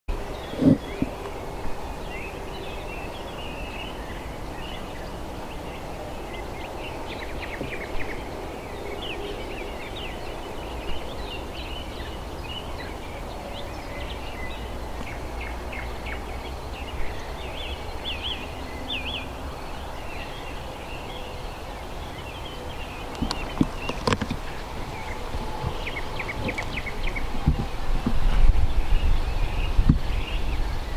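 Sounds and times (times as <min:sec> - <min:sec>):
small birds chirping: 0:00.1 - 0:30.9.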